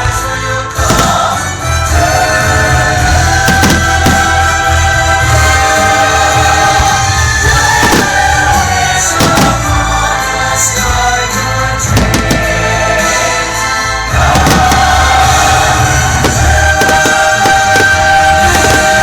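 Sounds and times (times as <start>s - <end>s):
choir singing held chords: 0.0s - 19.0s
orchestral music: 0.0s - 19.0s
firework bursts: 0.8s - 10.0s, 11.8s - 13.6s, 14.2s - 19.0s.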